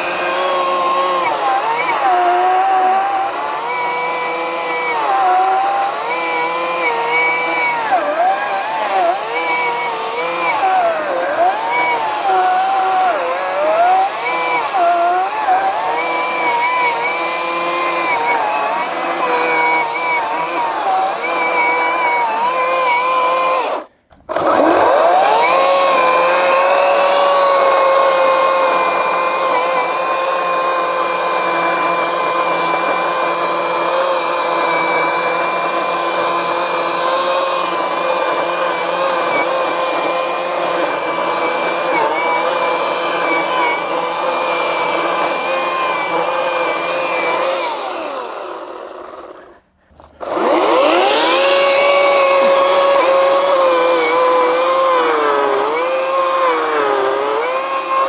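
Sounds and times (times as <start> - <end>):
battery chainsaw motor whine: 0.0 - 58.0.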